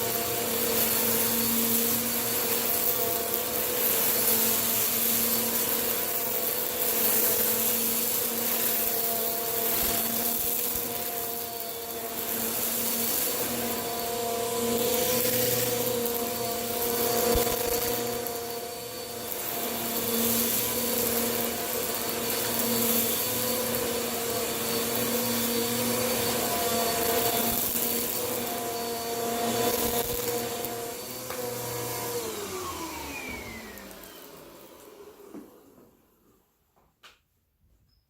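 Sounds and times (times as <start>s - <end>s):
vacuum cleaner motor: 0.0s - 36.6s.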